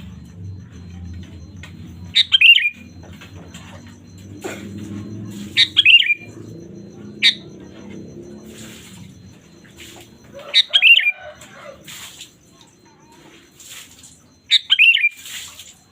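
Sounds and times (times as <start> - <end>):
steady low hum: 0.0 - 14.7
bulbul calling: 0.0 - 15.6.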